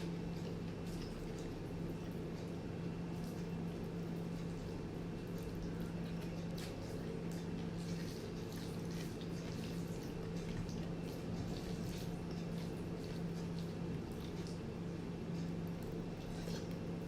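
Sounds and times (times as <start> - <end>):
wet chewing and lip smacks: 0.0 - 17.0.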